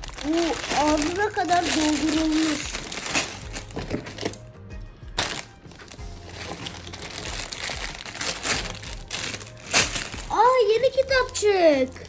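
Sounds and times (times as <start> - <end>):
plastic bags rustling and clicking: 0.0 - 4.5, 5.2 - 12.0
background music: 0.0 - 12.0.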